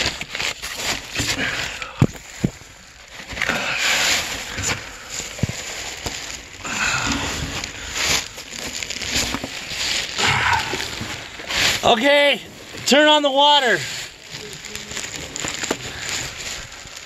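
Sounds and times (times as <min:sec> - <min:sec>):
rustling and scraping of crawling: 0:00.0 - 0:17.0.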